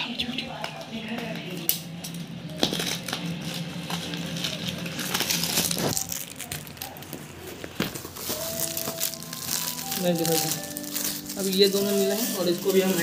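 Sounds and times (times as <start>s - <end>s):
cardboard and plastic being torn: 2.5s - 13.0s.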